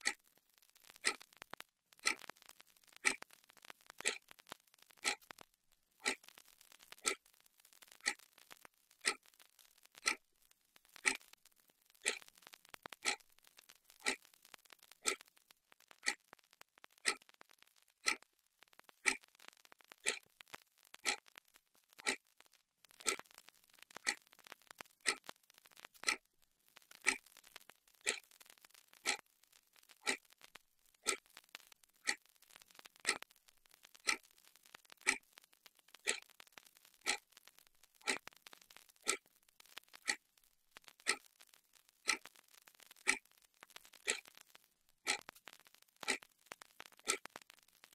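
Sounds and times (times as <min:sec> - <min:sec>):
clock ticking: 0:00.0 - 0:47.9.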